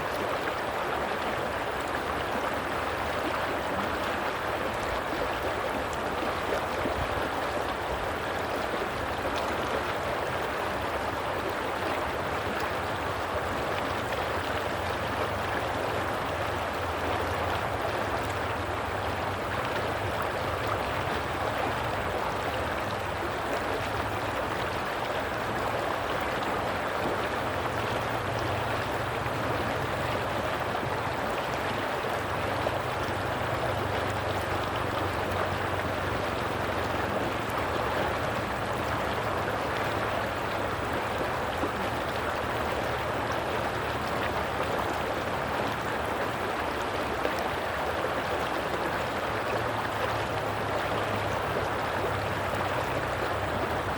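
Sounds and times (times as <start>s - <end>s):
stream water rushing and gurgling: 0.0s - 53.9s.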